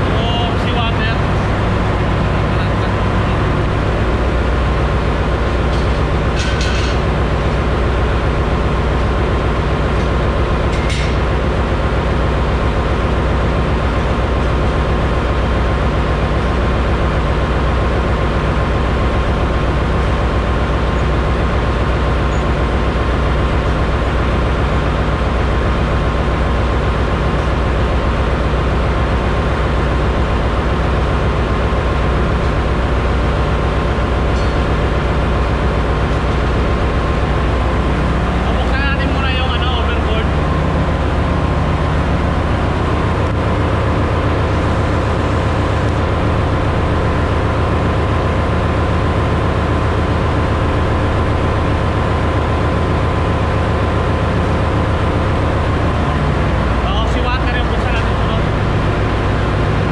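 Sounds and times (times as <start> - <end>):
engine-room machinery drone: 0.0 - 59.9.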